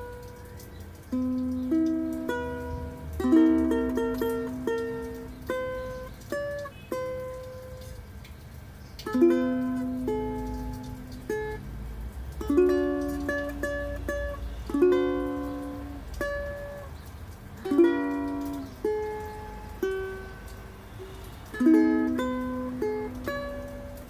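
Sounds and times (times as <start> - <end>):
ukulele strummed slowly: 1.1 - 8.0, 9.0 - 16.9, 17.6 - 20.7, 21.5 - 24.0.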